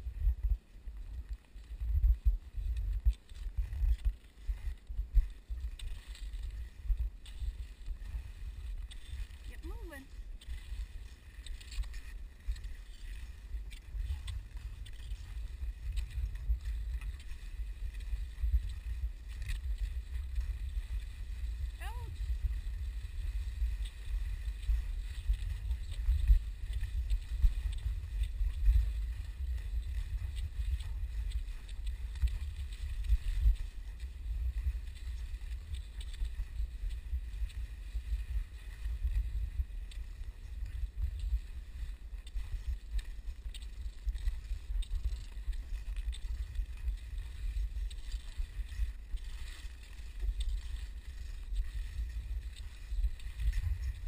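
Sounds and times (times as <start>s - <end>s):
wind buffeting microphone: 0.0s - 49.4s, 50.3s - 54.0s.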